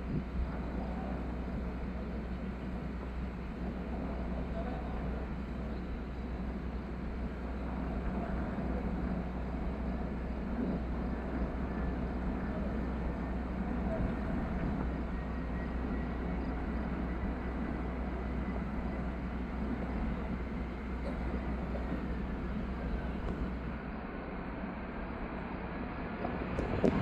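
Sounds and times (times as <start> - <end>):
faint high engine whine: 0.0 - 27.0.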